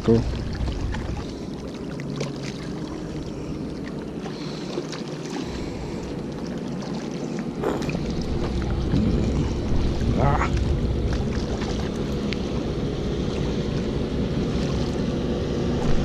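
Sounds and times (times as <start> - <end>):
water lapping against rocks: 0.0 - 16.0.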